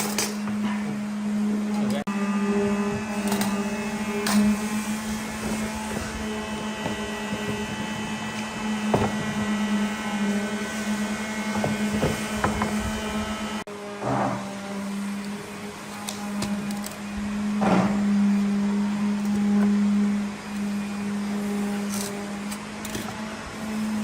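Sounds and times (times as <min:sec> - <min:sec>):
electric motor humming: 0:00.0 - 0:24.0.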